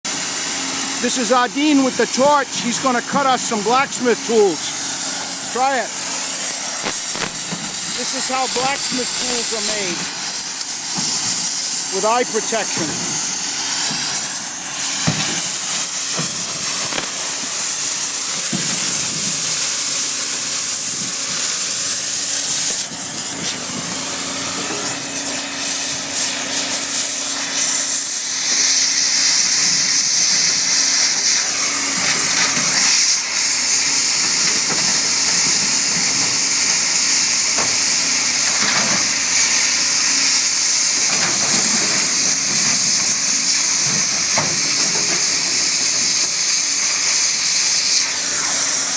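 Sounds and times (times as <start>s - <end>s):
cutting torch hissing: 0.1s - 48.9s.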